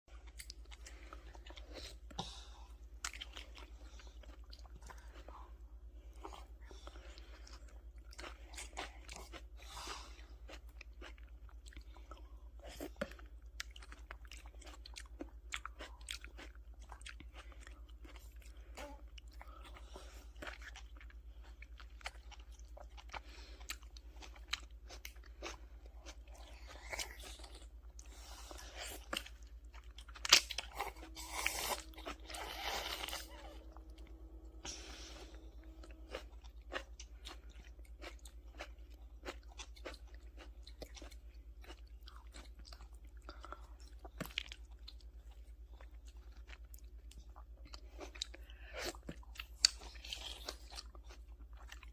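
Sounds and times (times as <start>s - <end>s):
steady low hum: 0.1s - 51.9s
toddler chewing tomato: 0.1s - 51.9s.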